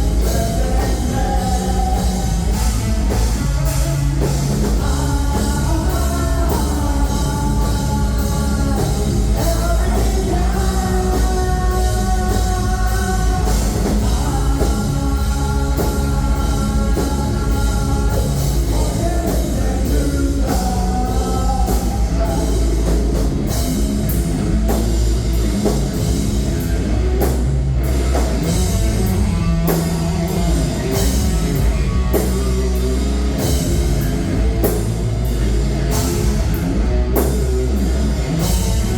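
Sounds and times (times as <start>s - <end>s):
heavy rock band playing: 0.0s - 38.9s
pounding drum kit: 0.0s - 38.9s.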